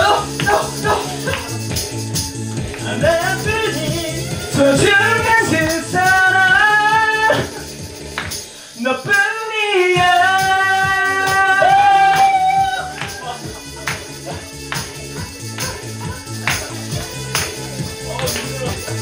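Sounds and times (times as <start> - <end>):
karaoke backing track: 0.0 - 19.0
tambourines shaking: 0.0 - 19.0.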